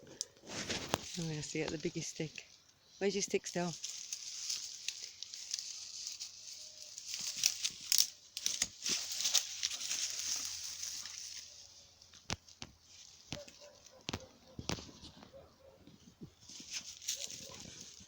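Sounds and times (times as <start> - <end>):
undergrowth rustling and snapping: 0.0 - 18.0.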